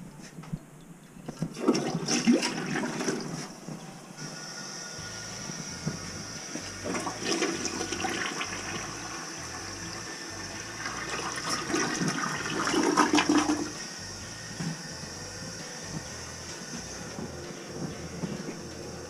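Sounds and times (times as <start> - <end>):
toilet flushing: 1.4 - 19.0.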